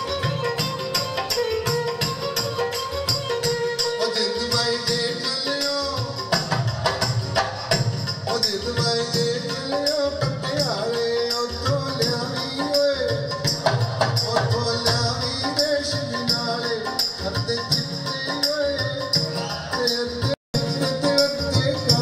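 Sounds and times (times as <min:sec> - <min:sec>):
music over loudspeakers: 0:00.0 - 0:22.0.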